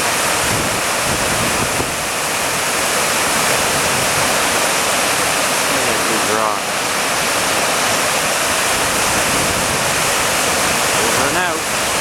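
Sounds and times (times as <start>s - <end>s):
river roaring over rocks: 0.0s - 12.0s.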